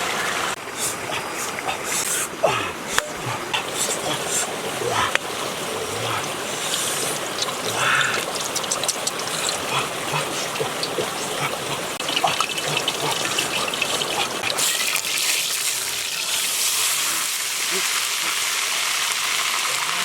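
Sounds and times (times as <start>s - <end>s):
running splashing water: 0.0s - 20.0s.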